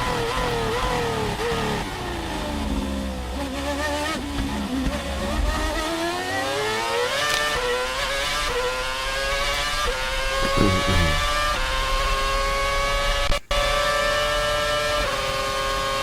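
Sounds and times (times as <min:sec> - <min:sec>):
racing car engine revving: 0:00.0 - 0:16.0.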